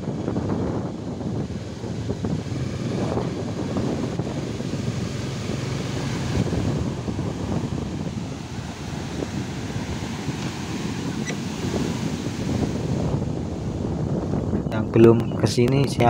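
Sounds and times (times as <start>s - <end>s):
ocean waves breaking: 0.0s - 14.5s
wind buffeting microphone: 0.0s - 16.0s.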